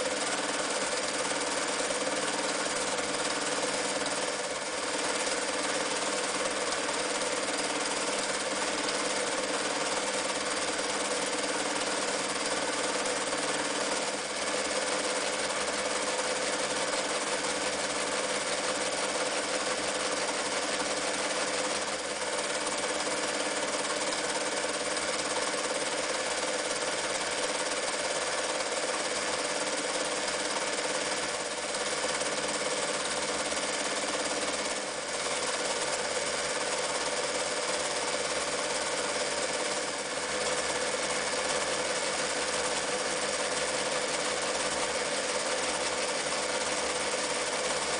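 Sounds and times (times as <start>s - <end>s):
sewing machine running: 0.0s - 47.9s.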